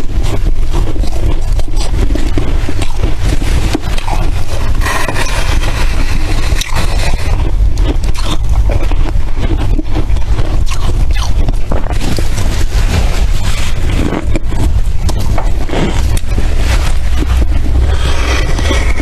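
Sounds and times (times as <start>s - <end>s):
chewing crunchy frost: 0.0s - 19.0s.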